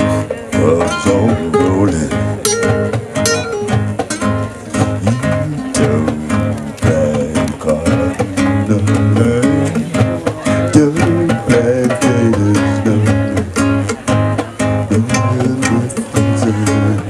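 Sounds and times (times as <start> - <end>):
plucked string melody: 0.0 - 17.0.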